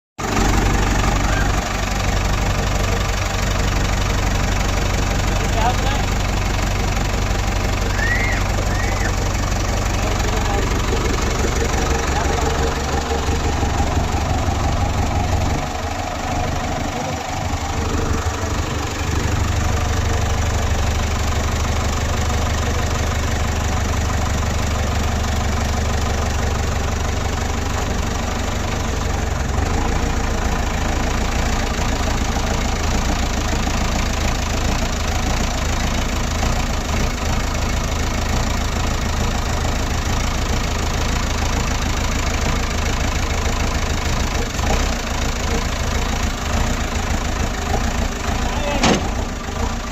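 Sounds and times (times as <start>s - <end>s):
diesel engine idling: 0.2s - 49.9s.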